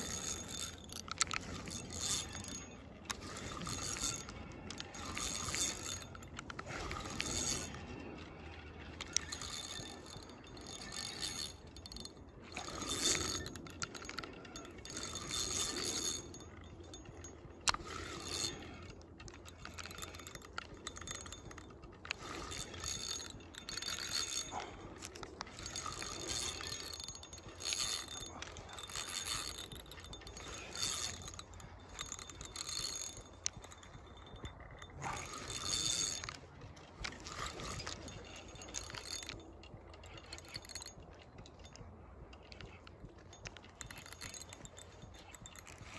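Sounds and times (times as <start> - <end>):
fishing reel drag buzzing: 0.0 - 41.0.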